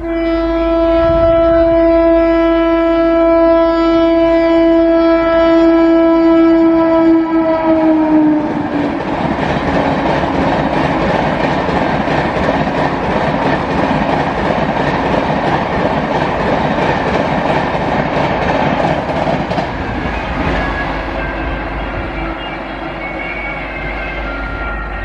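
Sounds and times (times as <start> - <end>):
train passing at high speed: 0.0 - 25.0.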